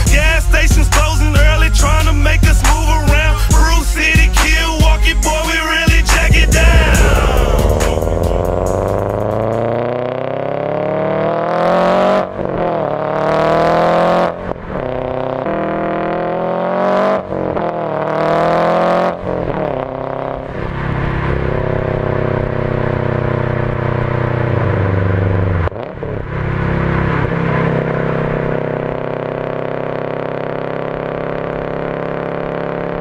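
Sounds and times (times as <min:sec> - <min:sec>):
car engine revving through gears: 0:00.2 - 0:33.0.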